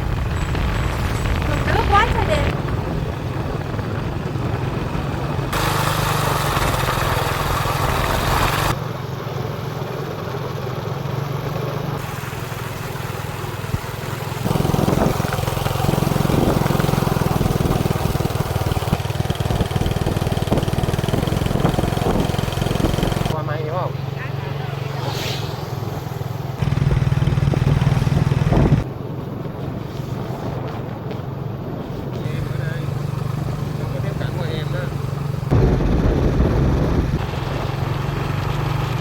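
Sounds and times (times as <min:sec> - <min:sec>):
small motorbike engine: 0:00.0 - 0:39.0
wind and road noise: 0:00.0 - 0:39.0.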